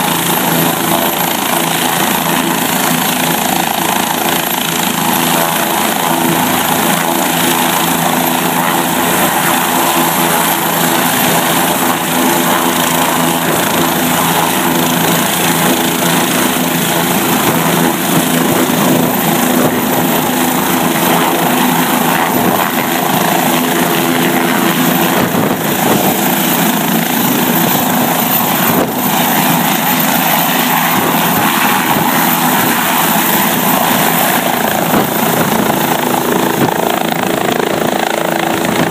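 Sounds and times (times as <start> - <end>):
helicopter rotors running: 0.0 - 38.9
turbine whine: 5.6 - 38.9.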